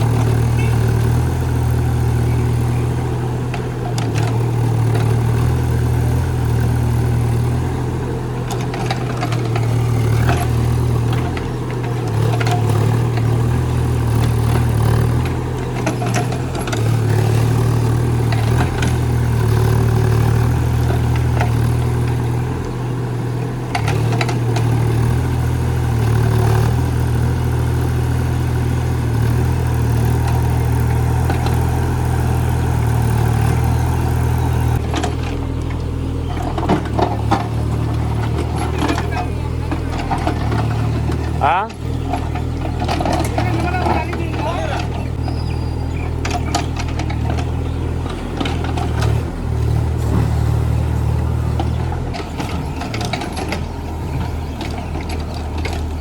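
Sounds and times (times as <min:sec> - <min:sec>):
diesel engine running under load: 0:00.0 - 0:56.0
digging knocks and clatters: 0:03.4 - 0:07.7, 0:08.3 - 0:22.8, 0:23.6 - 0:56.0.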